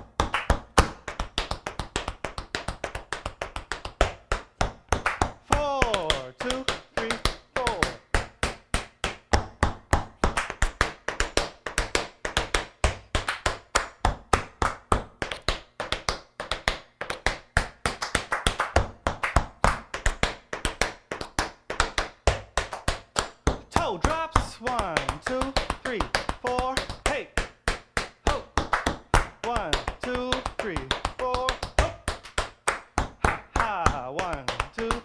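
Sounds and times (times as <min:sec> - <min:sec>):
tap shoes on hardwood floor: 0:00.0 - 0:35.0.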